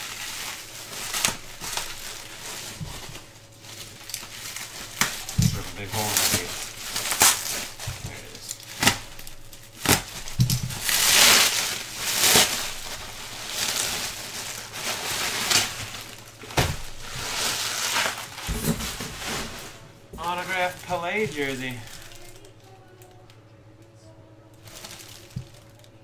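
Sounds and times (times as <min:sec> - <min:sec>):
bubble wrap rustling: 0:00.0 - 0:23.3, 0:24.5 - 0:26.0
bubble wrap snapping: 0:00.0 - 0:23.3, 0:24.6 - 0:26.0.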